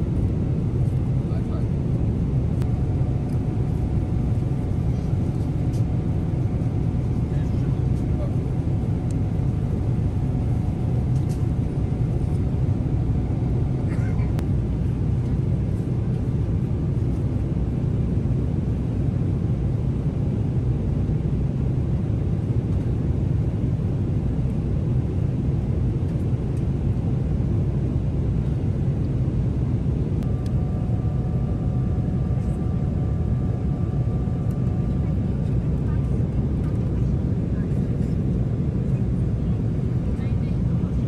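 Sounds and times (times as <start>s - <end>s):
airliner cabin engine rumble: 0.0s - 41.0s.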